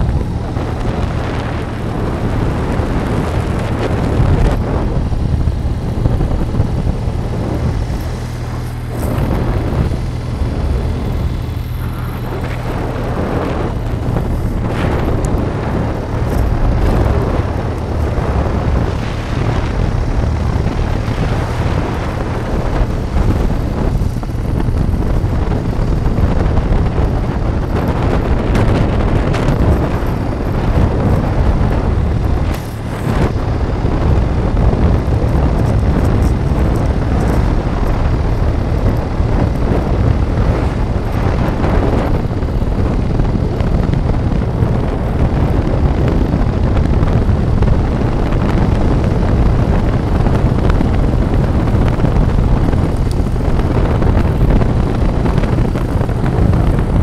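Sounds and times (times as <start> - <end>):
vehicle rumble on road: 0.0 - 57.0
wind buffeting microphone: 0.0 - 57.0.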